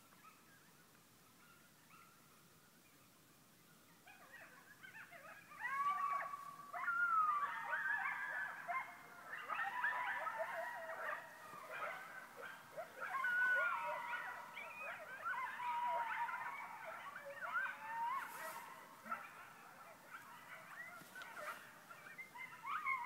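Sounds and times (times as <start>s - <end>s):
coyotes howling and yipping: 3.9s - 23.0s.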